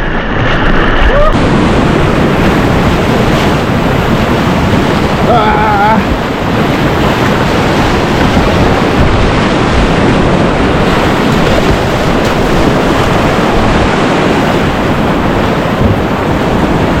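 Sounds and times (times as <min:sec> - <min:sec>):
wind rumbling on microphone: 0:00.0 - 0:17.0
whitewater rushing in river rapid: 0:00.1 - 0:17.0.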